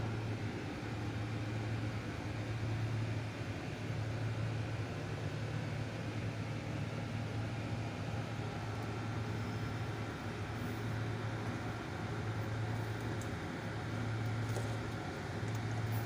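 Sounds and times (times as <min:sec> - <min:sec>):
electric motor and fan humming: 0:00.0 - 0:16.0.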